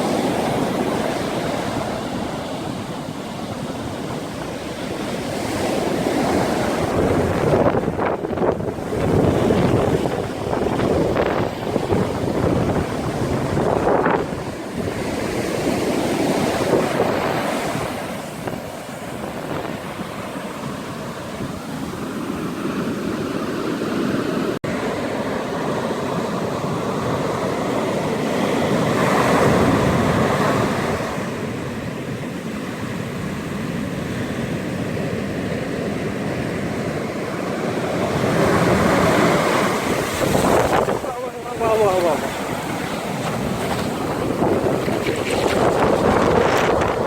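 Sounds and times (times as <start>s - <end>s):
wind buffeting microphone: 0.0s - 23.5s, 25.7s - 47.0s
ocean surf breaking: 0.0s - 47.0s.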